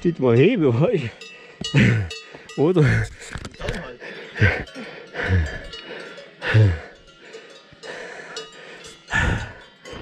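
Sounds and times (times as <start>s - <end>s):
cowbells ringing: 0.0s - 10.0s.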